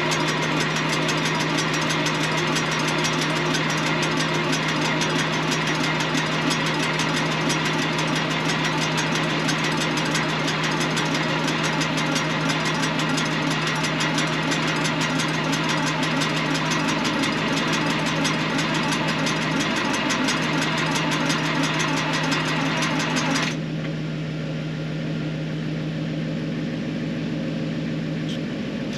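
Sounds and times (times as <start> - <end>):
tractor engine running: 0.0 - 24.0, 26.5 - 28.9.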